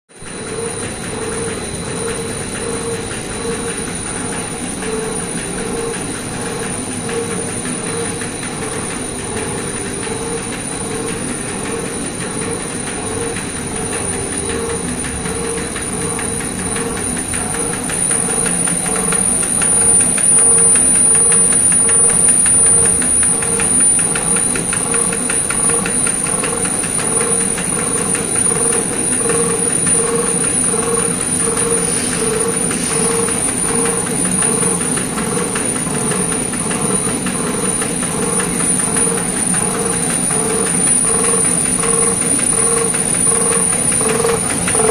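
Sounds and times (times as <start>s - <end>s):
machine hum with fast ticking: 0.1s - 44.9s.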